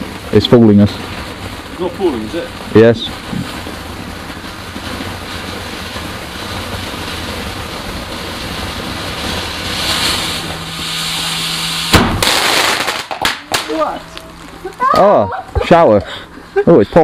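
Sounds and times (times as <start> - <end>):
firework bang: 0.0 - 15.7
firework hissing: 0.0 - 17.0.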